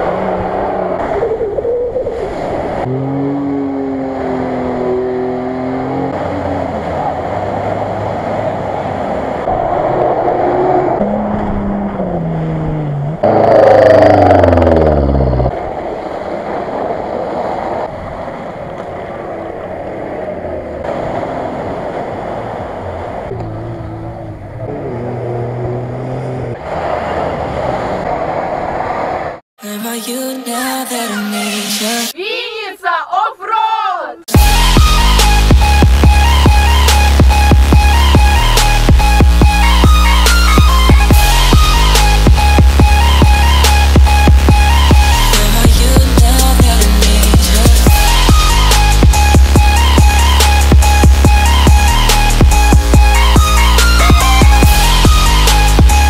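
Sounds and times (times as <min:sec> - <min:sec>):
off-road engines revving: 0:00.0 - 0:16.6, 0:17.7 - 0:29.4, 0:34.3 - 0:56.0
vehicles churning through mud: 0:00.0 - 0:29.4, 0:34.3 - 0:56.0.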